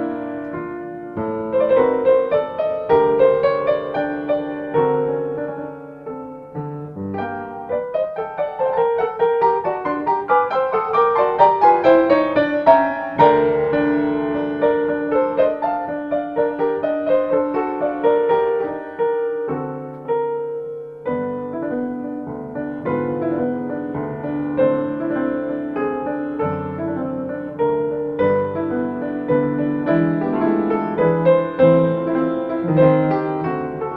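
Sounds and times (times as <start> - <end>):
solo piano music: 0.0 - 33.9.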